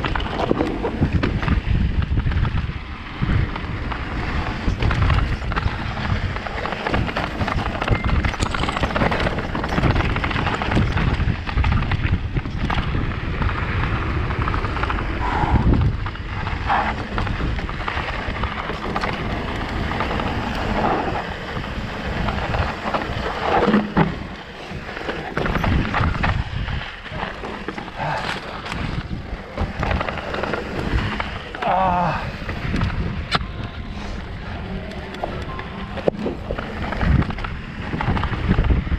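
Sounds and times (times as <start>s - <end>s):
bike rattling over stones: 0.0s - 38.9s
tyres over gravel: 0.0s - 38.9s
wind on microphone: 0.0s - 38.9s.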